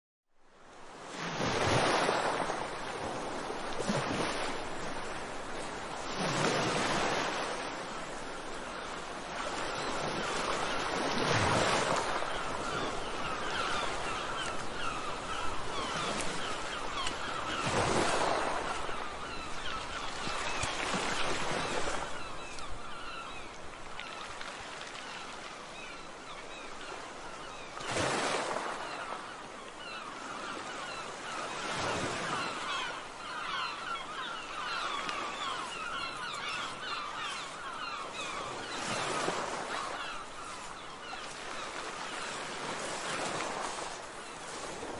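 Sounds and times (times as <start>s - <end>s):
ocean waves breaking on shore: 0.4s - 44.9s.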